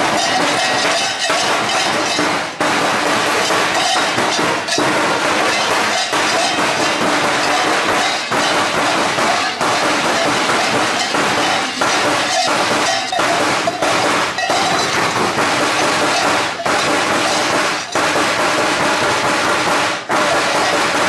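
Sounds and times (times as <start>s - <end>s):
large cowbells clanging: 0.0s - 21.0s.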